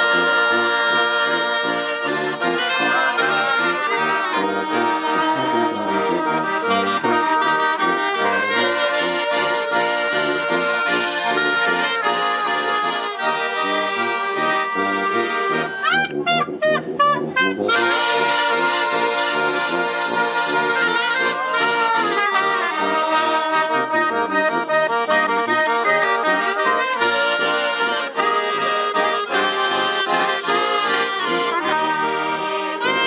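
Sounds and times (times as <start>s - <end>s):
accordion and brass playing hymn: 0.0s - 33.0s
warbling run of high notes: 0.0s - 33.0s.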